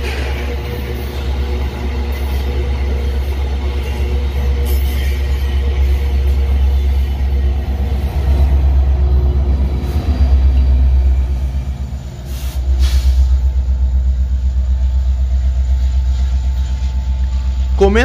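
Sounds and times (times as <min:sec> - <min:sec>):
freight train rumble: 0:00.0 - 0:18.0
locomotive engine hum: 0:00.0 - 0:18.0.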